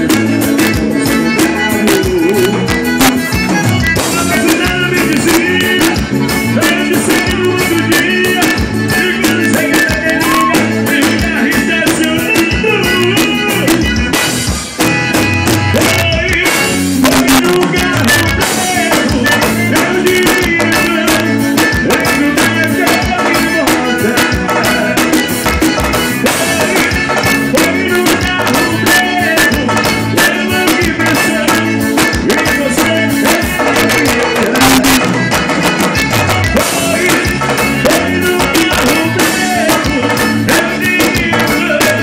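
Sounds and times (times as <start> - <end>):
person singing into microphone: 0.0 - 14.3, 15.7 - 35.5, 36.4 - 42.0
accordion: 0.0 - 42.0
congas: 0.0 - 42.0
drum kit: 0.0 - 42.0
electric bass: 0.0 - 42.0.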